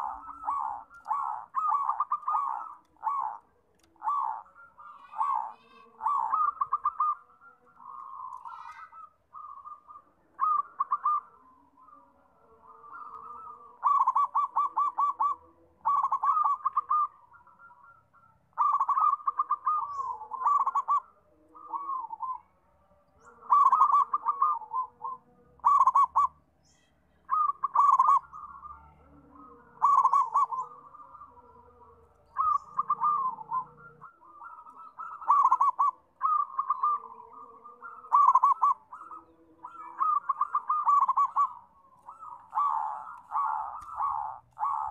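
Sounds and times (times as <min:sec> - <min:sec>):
dove cooing: 0:00.0 - 0:44.9.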